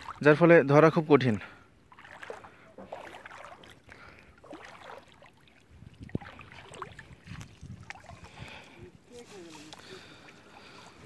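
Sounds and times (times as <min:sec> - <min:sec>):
shallow water swishing and splashing: 0:00.0 - 0:00.5, 0:01.7 - 0:11.0.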